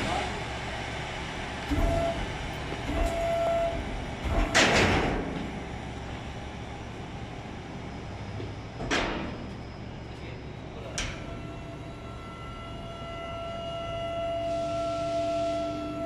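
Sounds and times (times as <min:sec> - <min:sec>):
steady mechanical background: 0:00.0 - 0:16.0.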